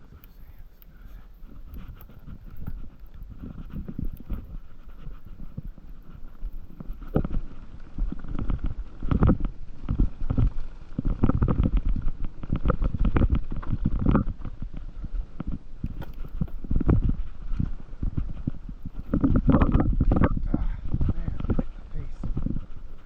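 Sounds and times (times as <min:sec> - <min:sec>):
low rumble on microphone: 0:00.0 - 0:23.0.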